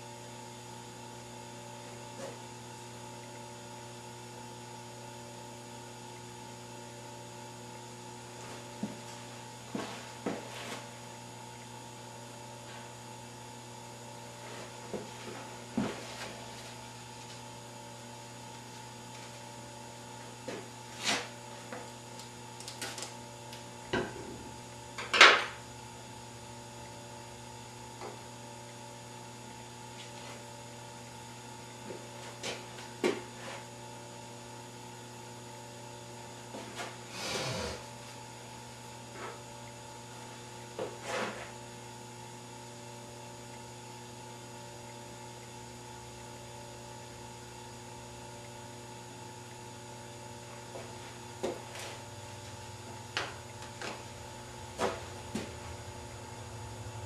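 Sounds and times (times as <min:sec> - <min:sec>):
mains hum: 0:00.0 - 0:57.0.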